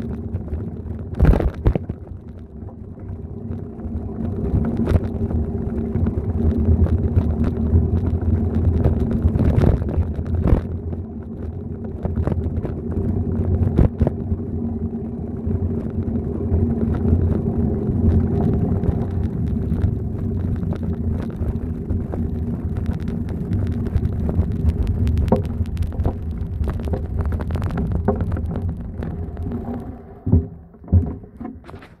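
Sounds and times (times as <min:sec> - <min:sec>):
wind on microphone: 0:00.0 - 0:31.1
bicycle rattles and knocks: 0:00.0 - 0:32.0
bicycle wheels rumbling on paving: 0:00.0 - 0:32.0.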